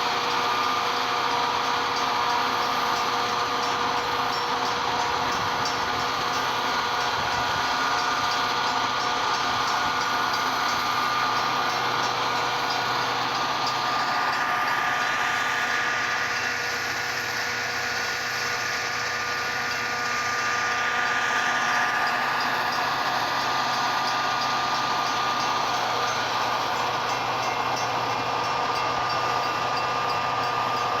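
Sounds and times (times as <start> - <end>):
train rolling past: 0.0 - 31.0.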